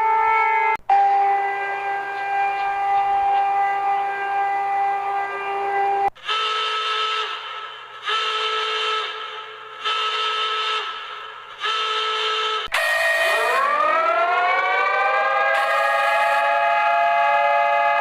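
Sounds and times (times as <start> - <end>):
emergency alert alarm tone: 0.0 - 18.0
pulsing horn-like alarm: 0.0 - 18.0.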